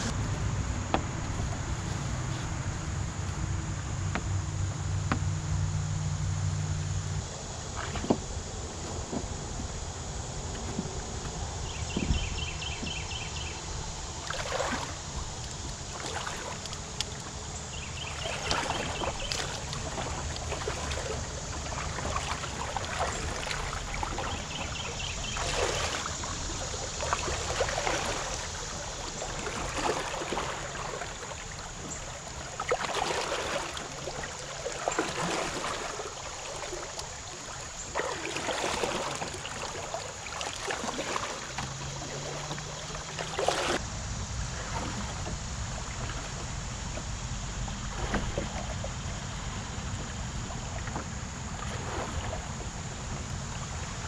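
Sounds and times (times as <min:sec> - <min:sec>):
river water splashing around legs: 0:00.0 - 0:54.0.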